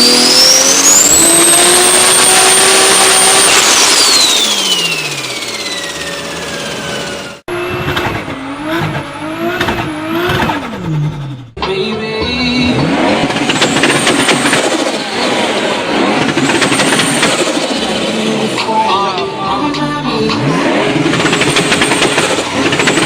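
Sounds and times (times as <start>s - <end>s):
turbocharged car engine revving: 0.0s - 11.8s, 12.4s - 23.0s.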